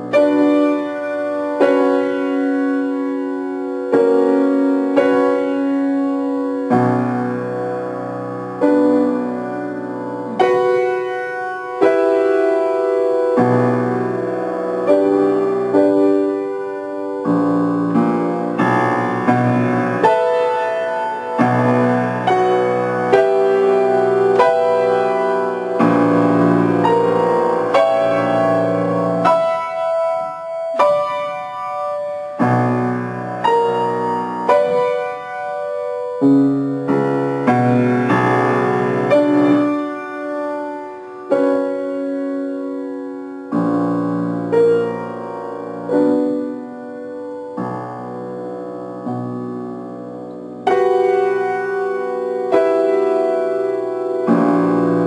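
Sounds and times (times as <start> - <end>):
slow piano chords: 0.0 - 55.0.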